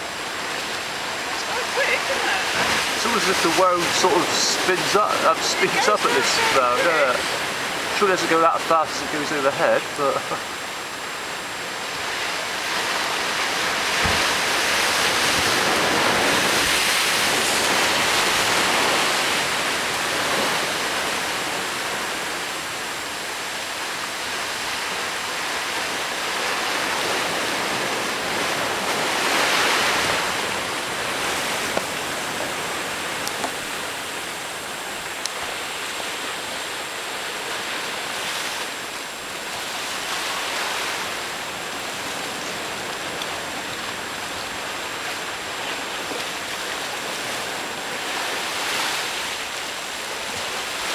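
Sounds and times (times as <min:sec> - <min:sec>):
surf washing over rocks: 0:00.0 - 0:50.9.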